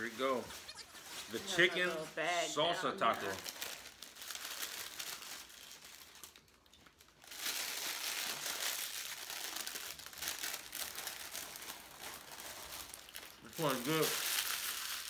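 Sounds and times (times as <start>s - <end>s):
paper wrappers crinkling: 0.0s - 15.0s.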